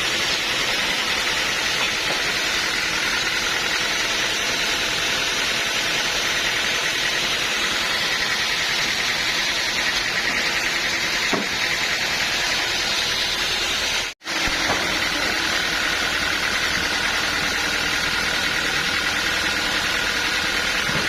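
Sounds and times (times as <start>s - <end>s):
sawmill saw hissing: 0.0s - 21.0s.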